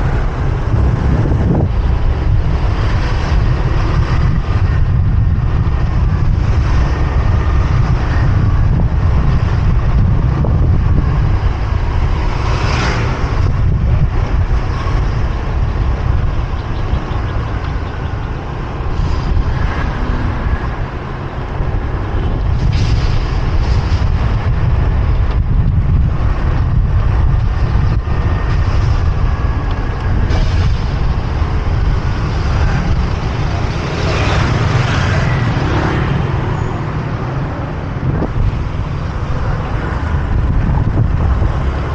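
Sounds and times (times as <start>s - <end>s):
engines and traffic hum: 0.0s - 41.9s
wind rumbling on microphone: 0.0s - 41.9s.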